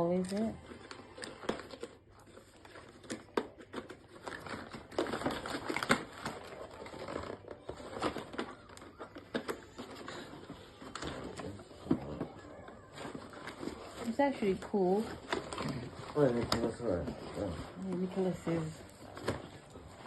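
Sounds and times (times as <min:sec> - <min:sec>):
packaging rustling and clicking: 0:00.0 - 0:20.0.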